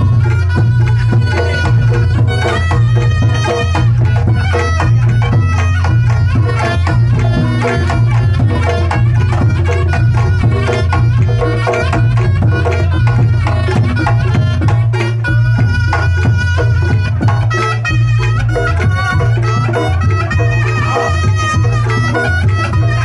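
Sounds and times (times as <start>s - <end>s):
fast hand drumming: 0.0s - 23.0s
reedy wind instrument melody: 0.0s - 23.0s.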